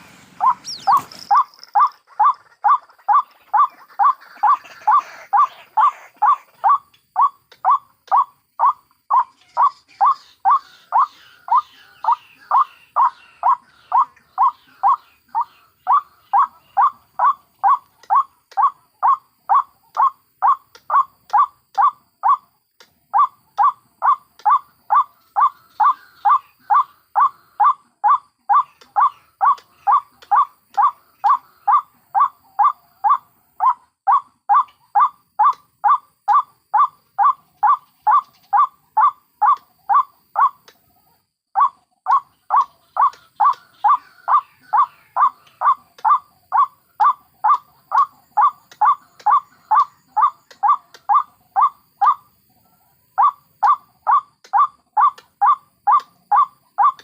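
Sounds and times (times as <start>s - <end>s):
waterhen calling: 0.0s - 22.4s, 23.2s - 40.7s, 41.6s - 52.3s, 53.2s - 57.0s.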